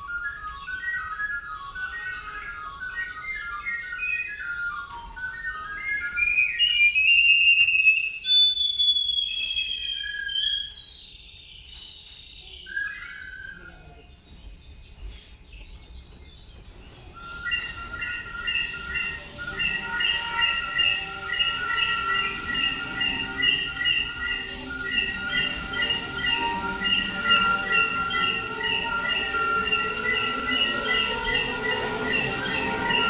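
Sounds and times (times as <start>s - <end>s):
recorder imitating birdsong: 0.0s - 33.0s.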